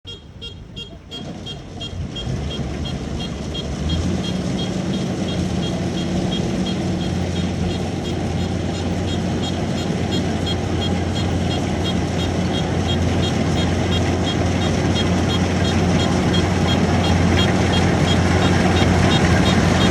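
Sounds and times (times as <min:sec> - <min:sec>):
harvester engine hum: 0:00.0 - 0:19.9
high machinery ticking: 0:00.1 - 0:19.9.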